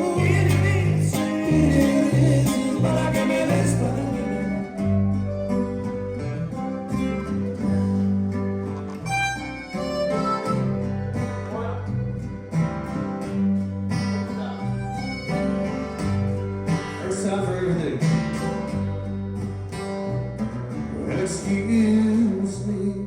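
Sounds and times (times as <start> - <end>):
guitar music with bass: 0.0 - 23.0.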